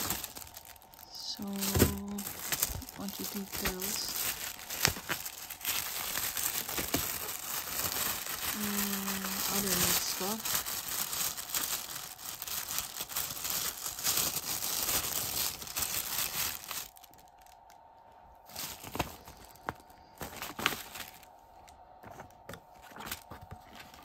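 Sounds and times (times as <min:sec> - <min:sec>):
plastic bags crinkling: 0:00.0 - 0:17.8, 0:18.4 - 0:21.4, 0:22.0 - 0:24.0.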